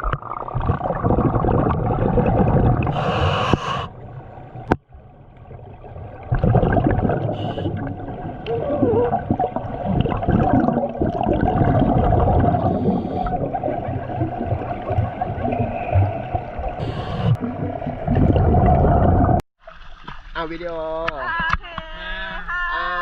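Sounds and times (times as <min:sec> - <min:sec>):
underwater bubbling and churning: 0:00.0 - 0:20.3.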